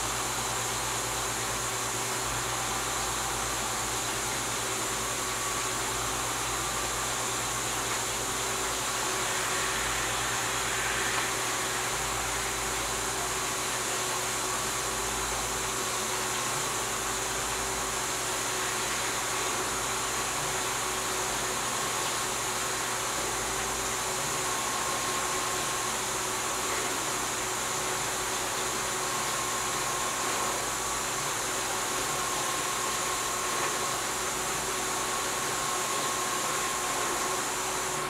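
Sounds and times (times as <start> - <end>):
machine hum with hiss: 0.0 - 38.0.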